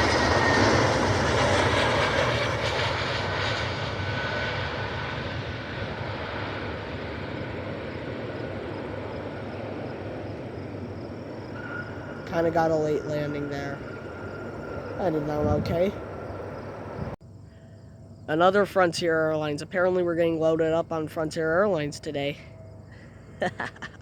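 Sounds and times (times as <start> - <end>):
jet airliner passing: 0.0 - 23.4.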